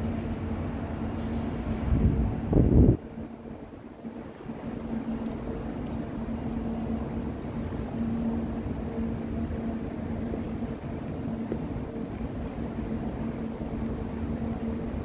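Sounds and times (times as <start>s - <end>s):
city noise rumble: 0.0s - 15.0s
low machine hum: 0.0s - 15.0s.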